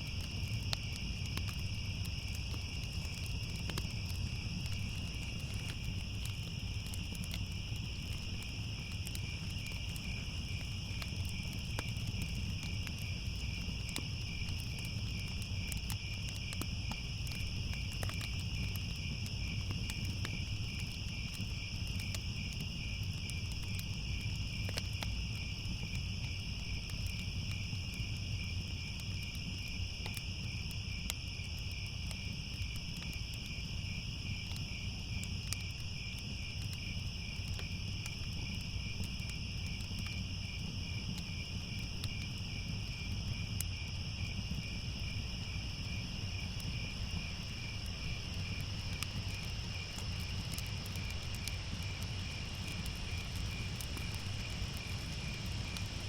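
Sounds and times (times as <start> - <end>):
crickets chirping: 0.0 - 56.0
fire crackling: 0.0 - 56.0.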